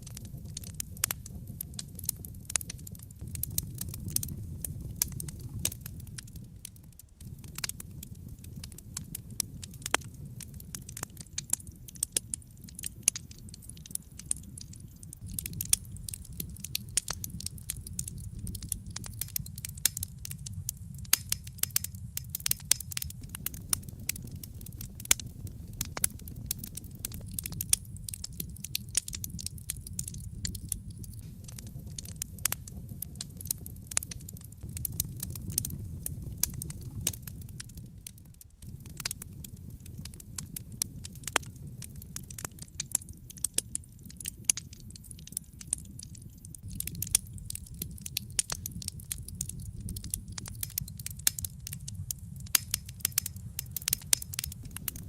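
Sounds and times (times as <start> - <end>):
burning wood crackling and popping: 0.0 - 55.0
low rumble of flames: 0.0 - 55.0.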